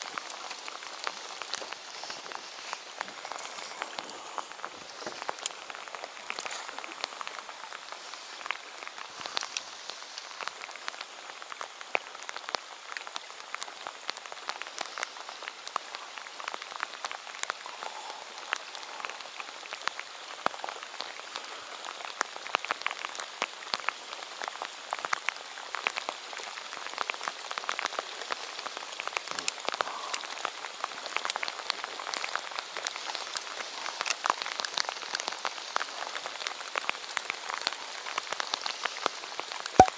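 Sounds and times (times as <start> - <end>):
heavy rain on water: 0.0 - 39.9
raindrops tapping: 0.0 - 39.9.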